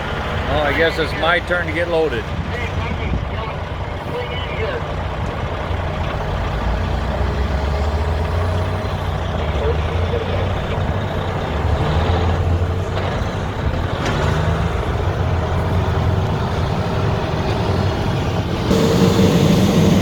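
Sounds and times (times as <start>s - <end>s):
heavy diesel truck engine running: 0.0s - 20.0s.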